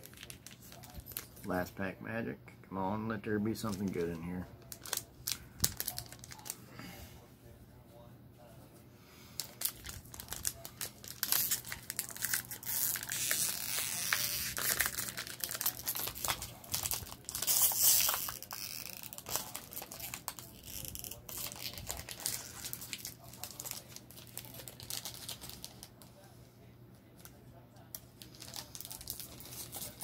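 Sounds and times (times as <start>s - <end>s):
foil wrapper crinkling: 0.0s - 1.7s, 3.5s - 6.9s, 9.4s - 26.3s, 27.2s - 30.0s.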